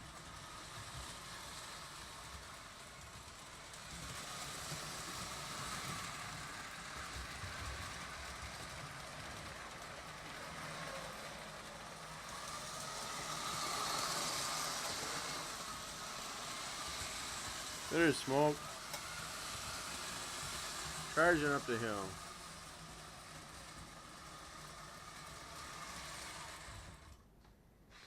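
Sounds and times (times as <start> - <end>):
toy train whirring on track: 0.0 - 27.2.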